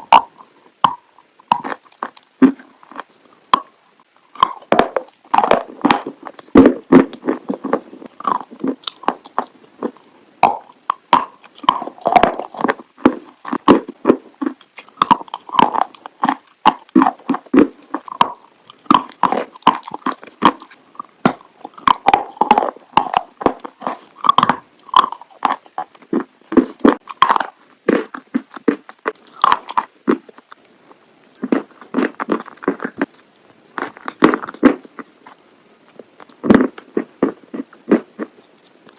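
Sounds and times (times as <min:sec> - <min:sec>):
chewing crunchy chalk: 0:00.0 - 0:38.9.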